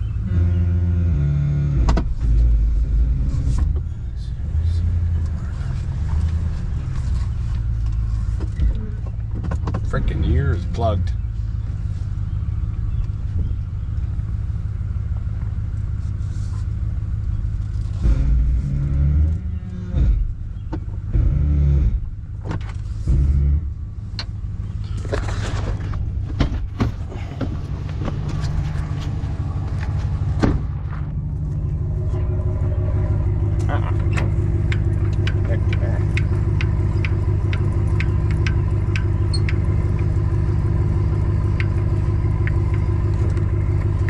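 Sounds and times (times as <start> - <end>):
engine and road rumble in cab: 0.0 - 44.0.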